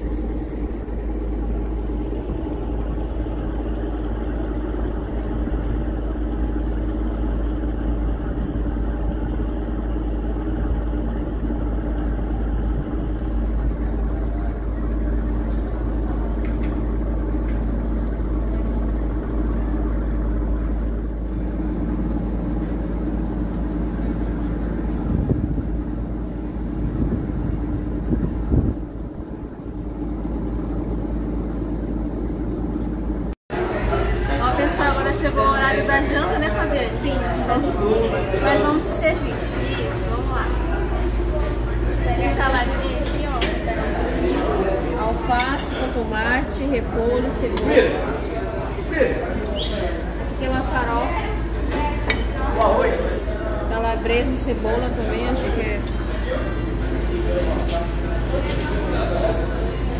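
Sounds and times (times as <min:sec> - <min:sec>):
riverboat engine droning: 0:00.0 - 0:59.9.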